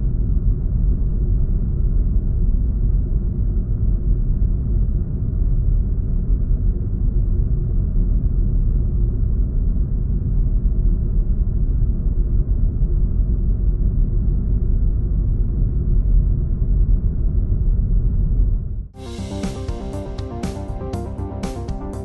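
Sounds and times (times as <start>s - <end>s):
deep rumble: 0.0s - 22.0s
faint low hum: 0.0s - 22.0s.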